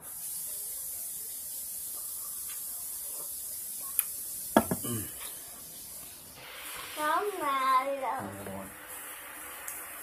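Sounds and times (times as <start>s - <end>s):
steady high-pitched hiss: 0.0s - 10.0s.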